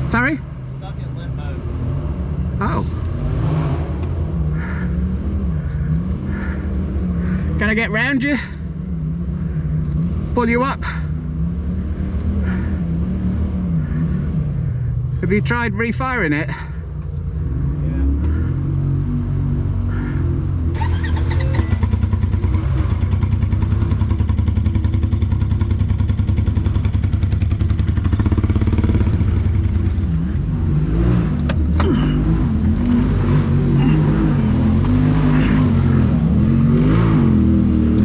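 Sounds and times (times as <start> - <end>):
engine revving: 0.0 - 38.0.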